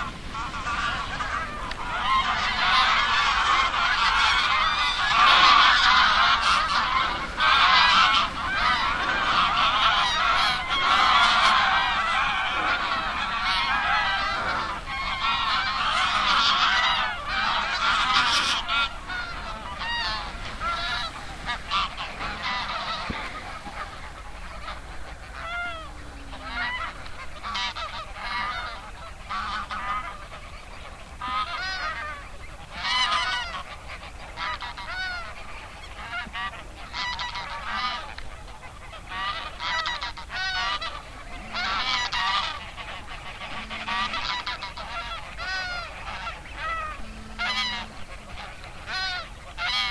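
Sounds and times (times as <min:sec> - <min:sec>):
geese honking: 0:00.0 - 0:49.9.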